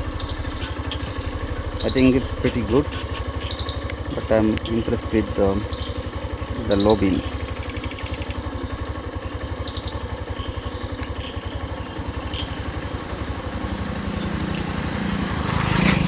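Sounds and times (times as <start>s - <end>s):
motorcycle engine idling: 0.0s - 16.0s
steady low hum: 0.0s - 16.0s.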